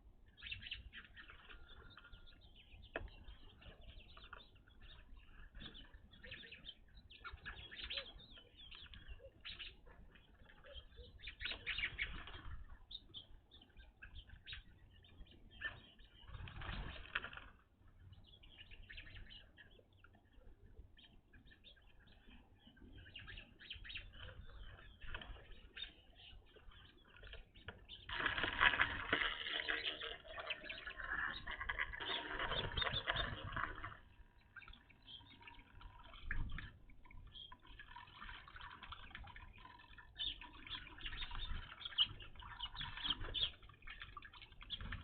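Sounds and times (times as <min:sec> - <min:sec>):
birds chirping: 0:00.0 - 0:45.0
wings fluttering: 0:03.0 - 0:14.7, 0:15.3 - 0:18.0, 0:23.2 - 0:45.0.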